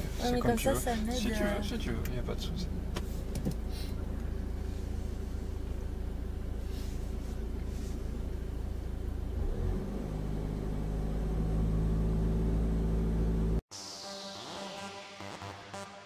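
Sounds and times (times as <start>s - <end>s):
car engine running: 0.0s - 13.6s.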